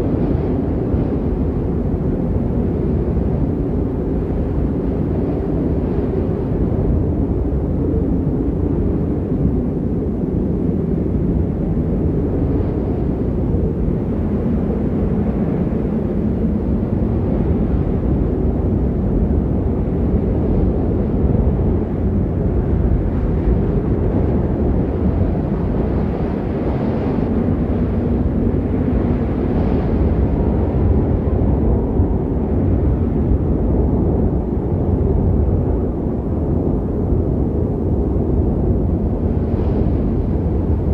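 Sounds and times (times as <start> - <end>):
rushing snowstorm wind: 0.0 - 40.9.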